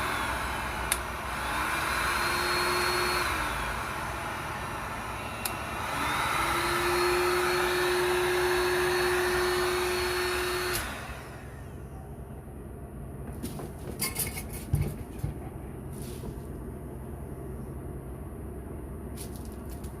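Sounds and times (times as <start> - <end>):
heat gun fan whirring: 0.0 - 11.9, 13.2 - 20.0.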